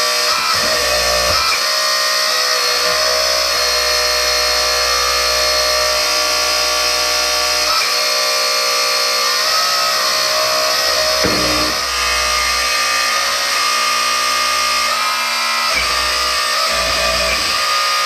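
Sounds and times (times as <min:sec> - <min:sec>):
hydraulic pump motor whine: 0:00.0 - 0:18.0.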